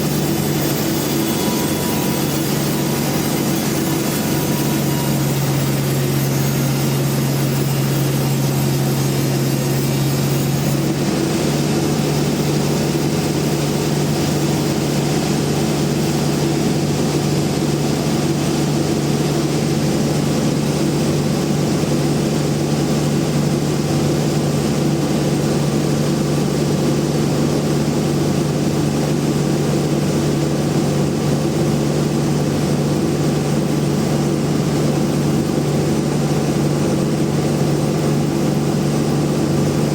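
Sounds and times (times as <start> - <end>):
bandsaw mill humming: 0.0 - 39.9.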